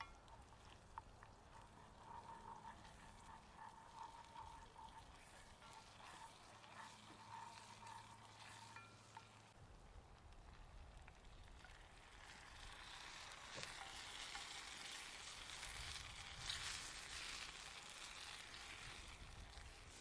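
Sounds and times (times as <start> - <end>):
food sizzling: 0.0 - 9.6, 11.2 - 20.0.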